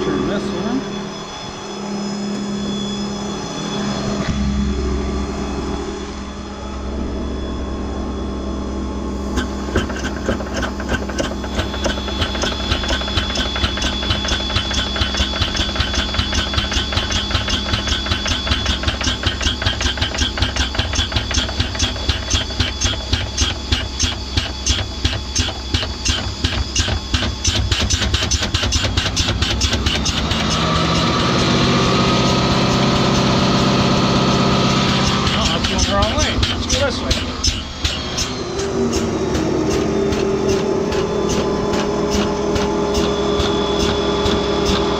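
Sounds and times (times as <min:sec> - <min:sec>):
pump pulsing: 0:00.0 - 0:44.9.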